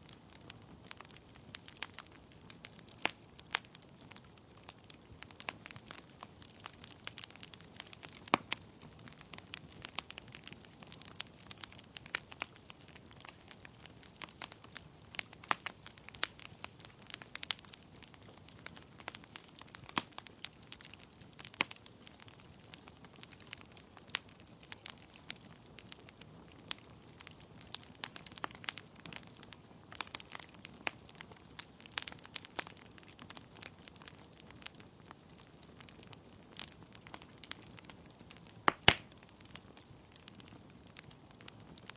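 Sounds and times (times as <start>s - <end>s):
logs crackling and popping: 0.0s - 41.9s.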